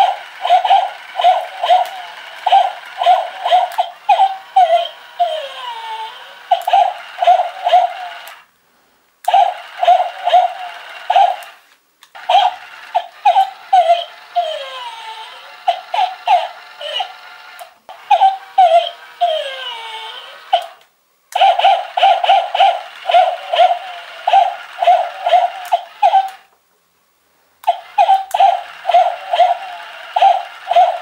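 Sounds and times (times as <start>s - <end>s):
toy dog recorded barking: 0.0s - 8.5s, 9.2s - 26.5s, 27.6s - 31.0s.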